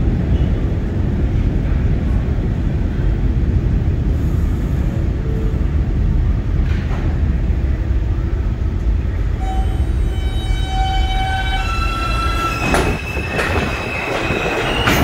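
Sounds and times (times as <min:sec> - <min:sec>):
low rumble in subway station: 0:00.0 - 0:15.0.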